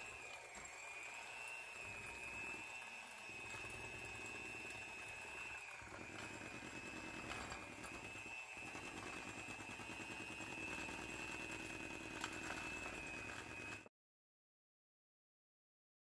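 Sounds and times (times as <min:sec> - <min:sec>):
electric hand mixer whining: 0:00.0 - 0:13.9.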